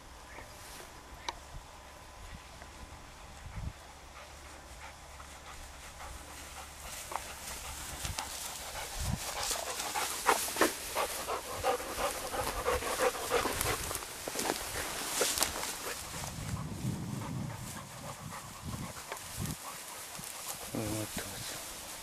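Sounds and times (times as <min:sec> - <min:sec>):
dog panting: 0:03.4 - 0:22.0.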